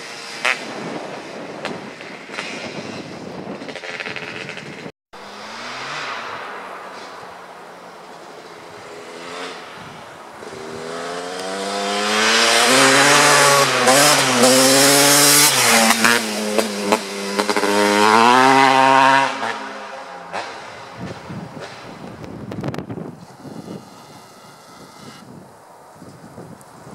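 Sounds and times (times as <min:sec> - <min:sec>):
dirt bike passing at speed: 0:00.0 - 0:25.4.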